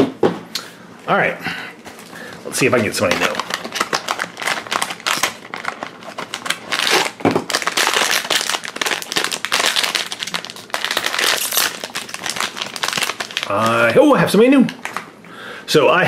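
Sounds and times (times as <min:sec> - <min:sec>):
foil bag crinkling: 0:01.9 - 0:15.1.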